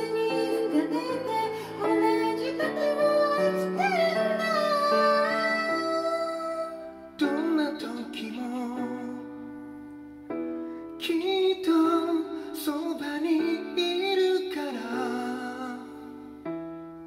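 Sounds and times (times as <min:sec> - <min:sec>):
person singing with vibrato: 0:00.0 - 0:09.6, 0:11.0 - 0:16.4
slow piano ballad: 0:00.0 - 0:17.0.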